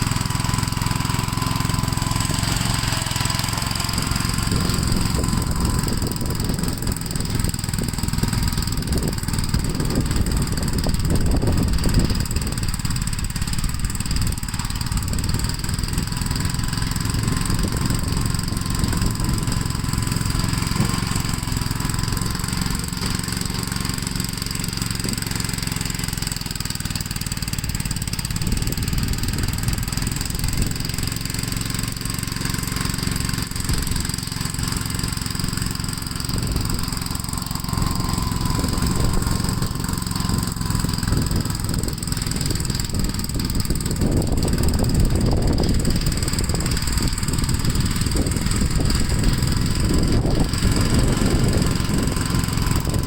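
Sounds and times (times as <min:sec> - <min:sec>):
tractor engine chugging: 0:00.0 - 0:53.0.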